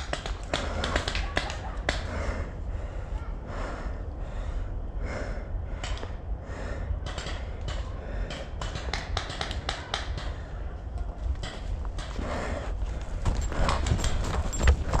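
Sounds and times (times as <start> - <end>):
heavy breathing: 0.0 - 9.2, 11.5 - 15.0.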